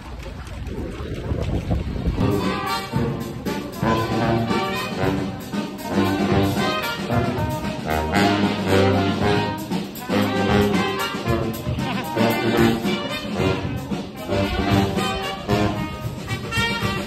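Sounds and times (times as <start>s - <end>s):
brass band playing: 2.2s - 17.0s.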